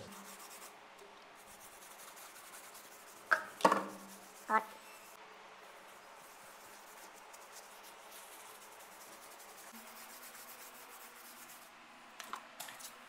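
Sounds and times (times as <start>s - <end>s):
paintbrush scrubbing countertop: 0.0s - 0.7s, 1.4s - 11.7s.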